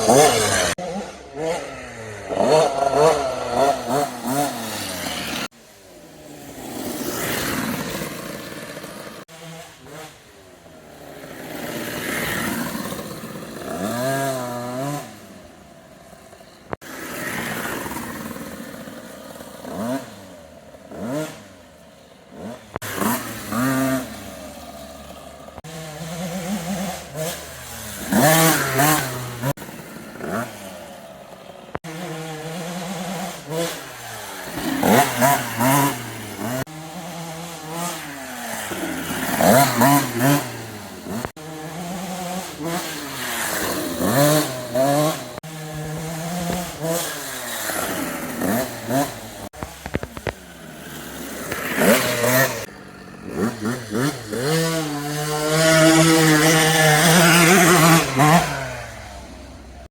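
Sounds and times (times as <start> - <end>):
dirt bike engine revving: 0.0 - 5.6, 6.2 - 59.9.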